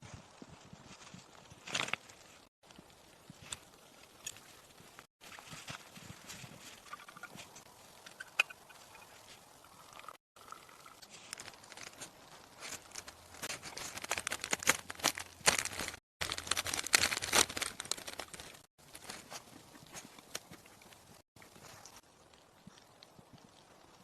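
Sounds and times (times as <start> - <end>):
crunching and crackling: 0.3 - 24.0.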